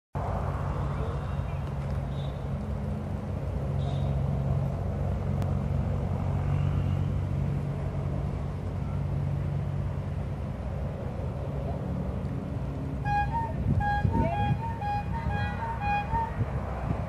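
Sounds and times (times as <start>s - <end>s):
low engine hum: 0.2s - 17.0s.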